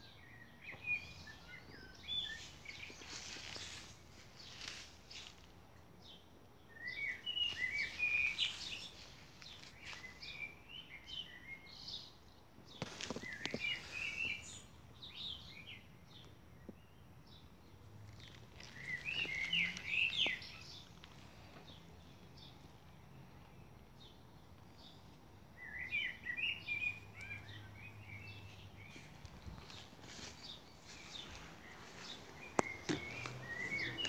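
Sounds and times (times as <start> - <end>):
faint outdoor background noise: 0.0 - 34.0
songbird chirping: 0.0 - 34.0.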